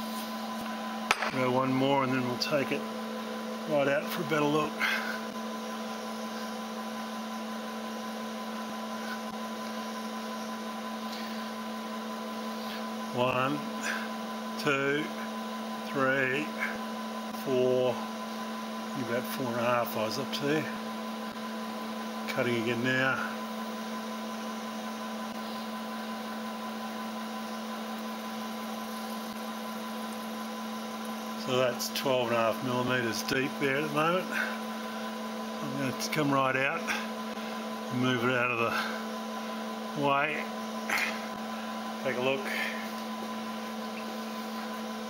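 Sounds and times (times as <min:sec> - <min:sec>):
milling machine spindle hum: 0:00.0 - 0:45.0.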